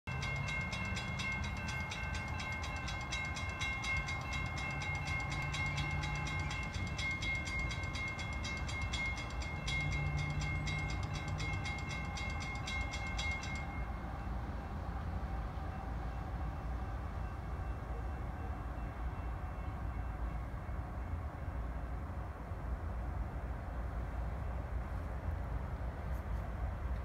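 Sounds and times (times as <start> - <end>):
crossing warning bell ringing: 0.1 - 21.7.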